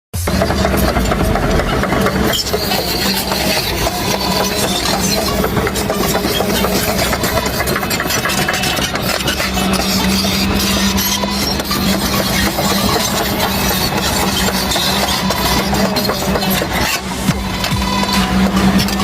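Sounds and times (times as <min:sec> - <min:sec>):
toy construction machine droning: 0:00.2 - 0:19.0.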